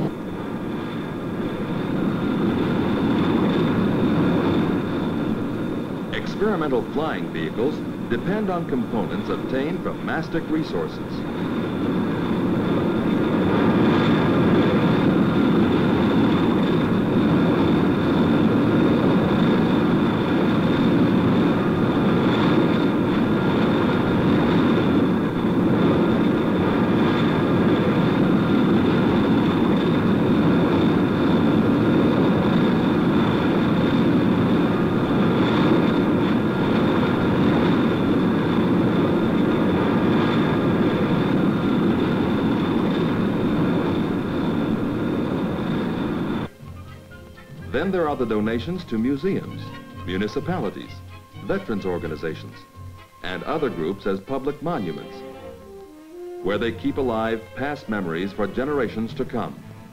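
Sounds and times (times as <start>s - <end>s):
steady high whine: 0.0s - 59.9s.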